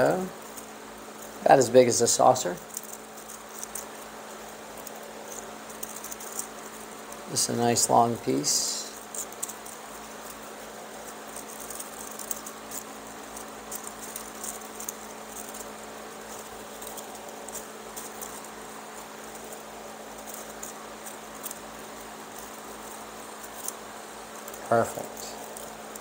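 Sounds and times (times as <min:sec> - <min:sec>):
cane strand rustling and ticking: 0:00.0 - 0:26.0
steady low hum: 0:00.0 - 0:26.0.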